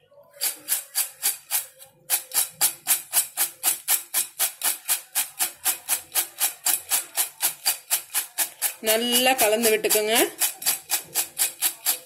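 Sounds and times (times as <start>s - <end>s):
background music with shaker beat: 0.4s - 12.0s.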